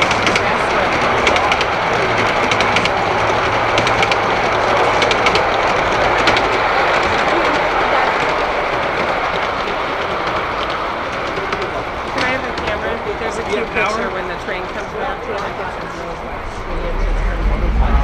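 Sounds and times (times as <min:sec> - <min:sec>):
model train wheels clicking: 0:00.0 - 0:16.2
steady noisy background: 0:00.0 - 0:18.0.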